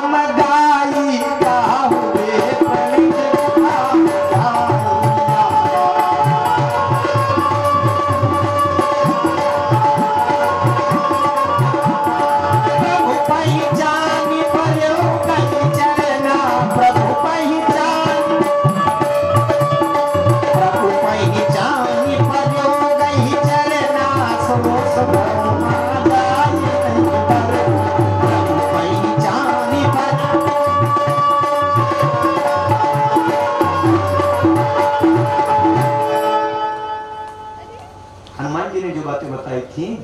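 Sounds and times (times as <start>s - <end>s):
tabla rhythm: 0.0s - 39.2s.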